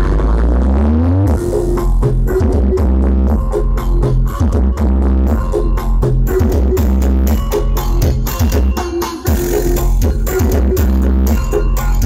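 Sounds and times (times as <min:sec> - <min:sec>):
electronic dance music with heavy bass: 0:00.0 - 0:12.0.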